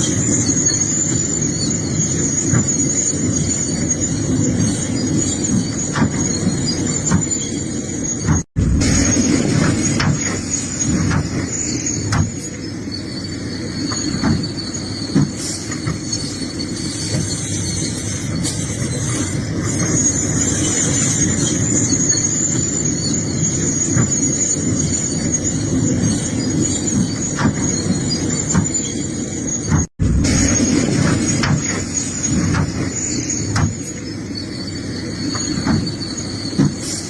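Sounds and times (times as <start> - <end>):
diesel engine under load: 0.0 - 37.0
high-pitched squeal: 0.0 - 37.0.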